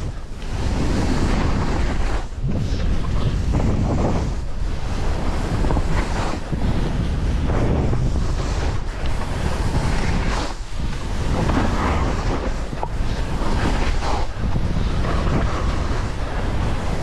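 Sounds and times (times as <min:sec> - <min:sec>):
skis scraping snow: 0:00.0 - 0:17.0
wind on microphone: 0:00.0 - 0:17.0.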